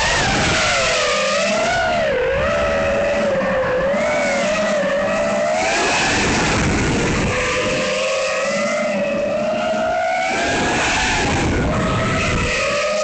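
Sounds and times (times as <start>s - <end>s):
drone motors whining: 0.0s - 13.0s
wind on microphone: 0.0s - 13.0s.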